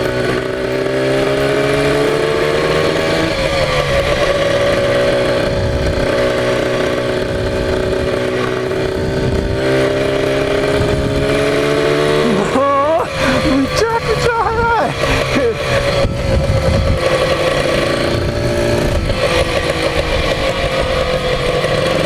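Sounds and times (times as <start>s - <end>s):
two-stroke engine climbing: 0.0s - 22.0s.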